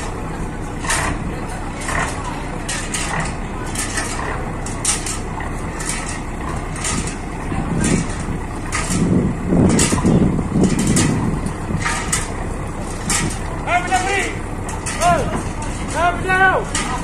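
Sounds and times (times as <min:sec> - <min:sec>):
boat diesel engine droning: 0:00.0 - 0:17.0
short sharp clatters: 0:00.8 - 0:17.0.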